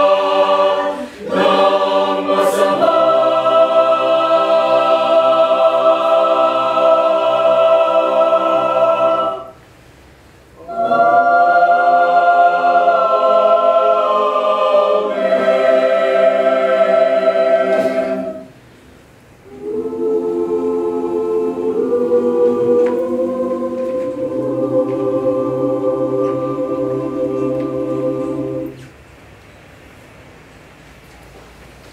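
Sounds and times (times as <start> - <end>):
mixed choir singing unaccompanied: 0.0 - 9.6, 10.6 - 18.6, 19.5 - 29.0.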